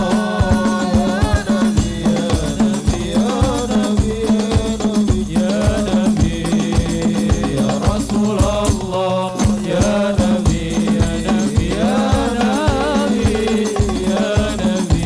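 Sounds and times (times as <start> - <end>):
frame drums beating: 0.0 - 15.0
men chant-singing through pa: 0.0 - 15.0.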